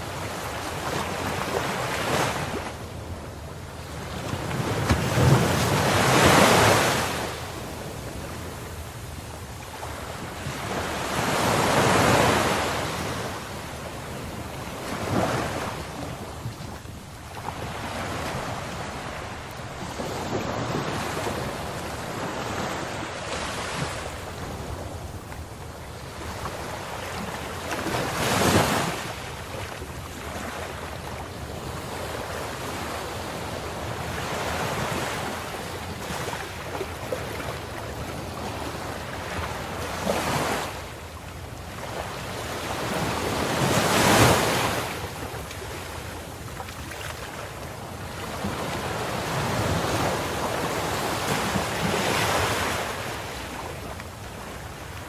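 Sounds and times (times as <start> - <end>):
ocean waves breaking: 0.0 - 41.0, 41.7 - 55.0
surf wash: 0.0 - 55.0.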